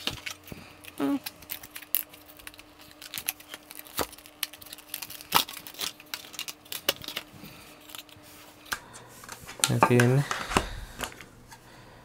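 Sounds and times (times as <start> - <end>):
plastic crinkling: 0.0 - 11.2.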